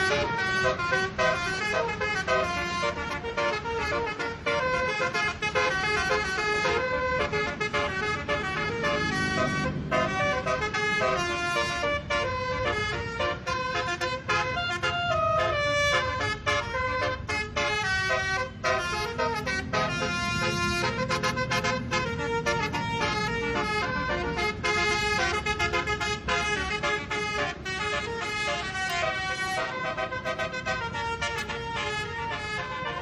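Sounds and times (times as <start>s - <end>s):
multi-tone horn playing tune: 0.0s - 33.0s.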